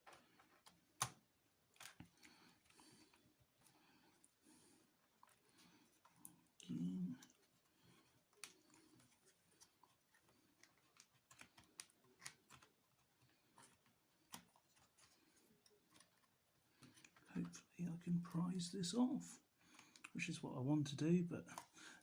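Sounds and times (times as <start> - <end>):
faint plastic and metal clicks: 0.0 - 17.7, 19.6 - 20.2, 21.4 - 22.0.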